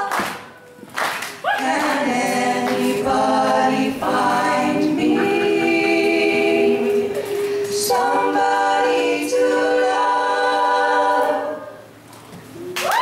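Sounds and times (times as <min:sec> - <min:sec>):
women singing in harmony: 0:01.6 - 0:12.0.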